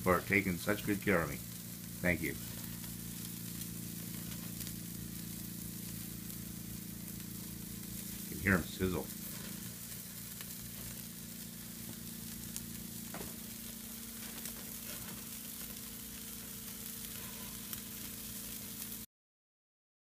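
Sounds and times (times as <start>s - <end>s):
faint crackles: 0.0s - 19.0s
patties sizzling on grill: 0.0s - 19.1s.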